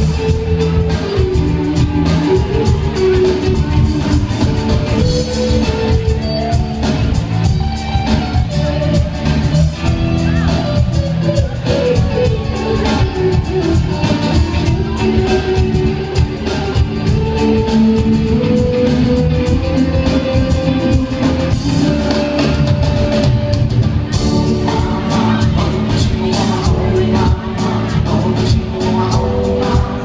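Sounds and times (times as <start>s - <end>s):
drum kit beat: 0.0s - 30.0s
guitars sliding melody notes: 0.0s - 30.0s.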